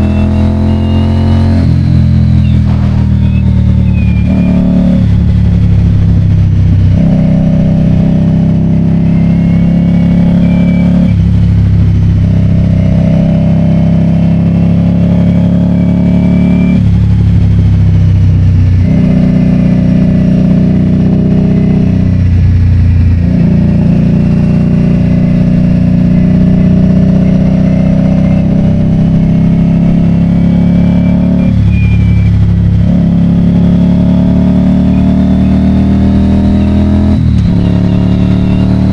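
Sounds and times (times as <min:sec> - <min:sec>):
vehicle engine running under load: 0:00.0 - 0:38.9.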